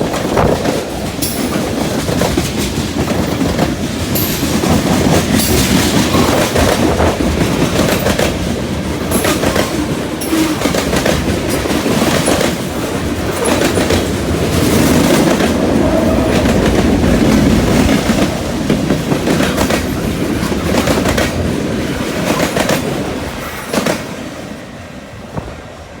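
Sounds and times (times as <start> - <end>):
train wheels clacking over rail joints: 0.0 - 24.7
low train rumble: 0.0 - 26.0.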